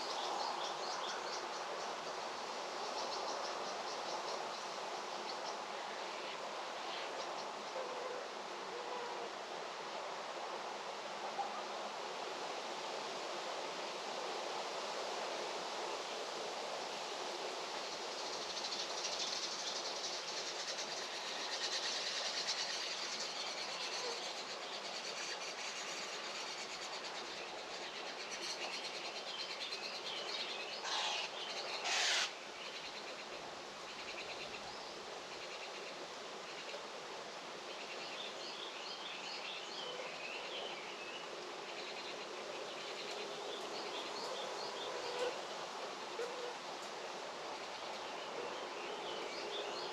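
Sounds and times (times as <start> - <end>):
even outdoor hiss: 0.0 - 49.9.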